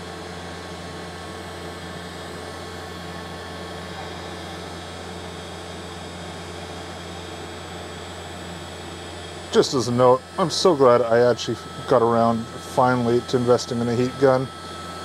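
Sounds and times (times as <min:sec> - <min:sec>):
heat gun fan humming: 0:00.0 - 0:15.0.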